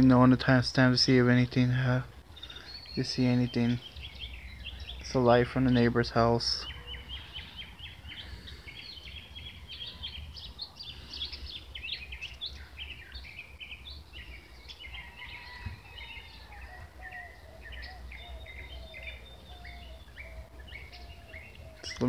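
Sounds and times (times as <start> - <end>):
birds chirping chorus: 0.0 - 22.0.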